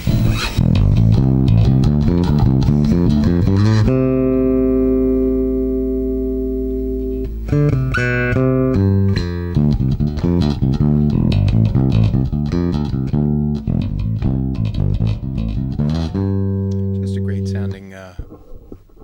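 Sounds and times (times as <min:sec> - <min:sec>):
electric bass plucked notes: 0:00.0 - 0:18.3.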